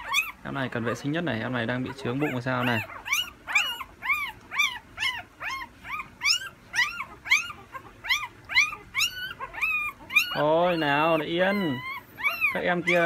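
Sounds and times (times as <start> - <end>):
puppy squealing: 0.0 - 13.0.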